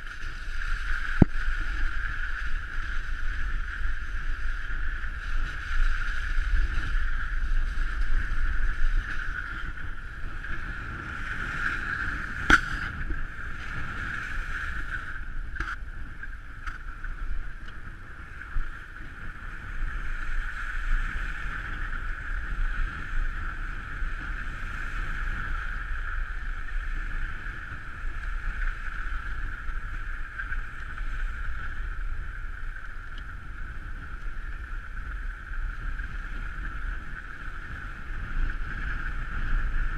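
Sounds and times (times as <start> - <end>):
car driving on snowy road: 0.0 - 39.9
wind: 0.0 - 39.9.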